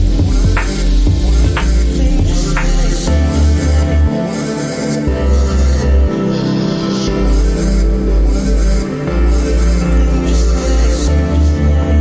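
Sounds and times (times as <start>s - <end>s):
music with heavy bass notes: 0.0s - 12.0s.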